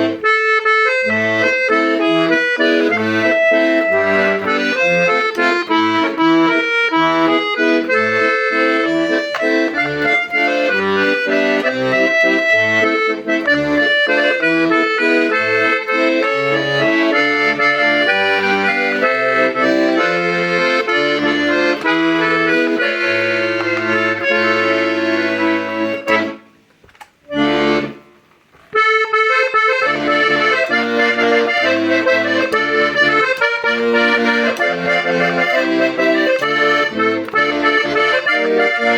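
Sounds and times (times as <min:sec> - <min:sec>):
accordion playing a tune: 0:00.0 - 0:38.9.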